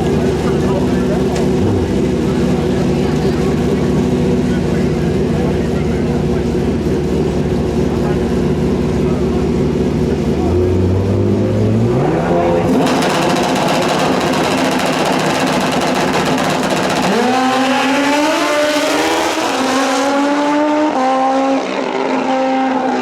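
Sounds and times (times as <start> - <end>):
motorcycle accelerating at full throttle: 0.0 - 23.0.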